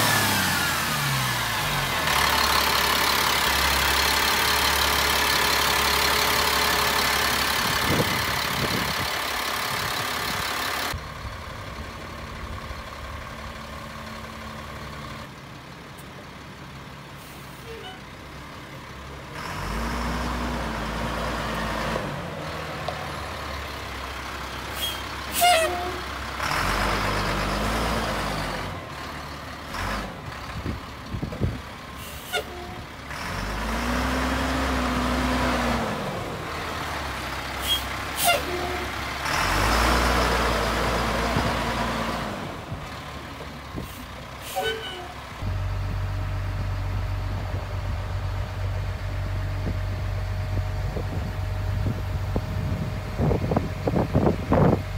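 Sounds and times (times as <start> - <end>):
diesel truck engine revving: 0.0 - 15.4, 16.7 - 54.9.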